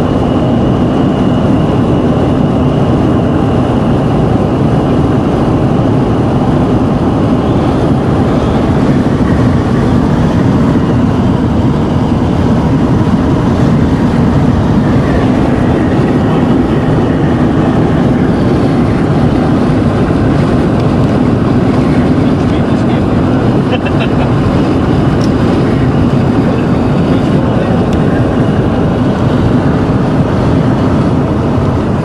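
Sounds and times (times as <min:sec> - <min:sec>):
strong wind buffeting vehicle: 0:00.0 - 0:32.0.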